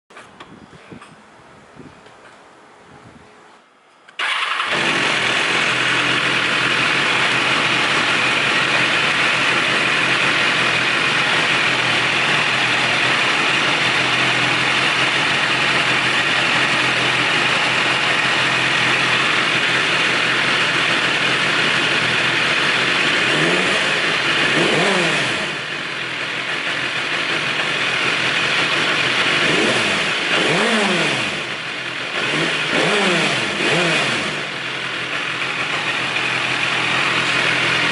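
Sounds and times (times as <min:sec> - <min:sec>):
motorcycle engine idling and revving: 0:04.2 - 0:37.9.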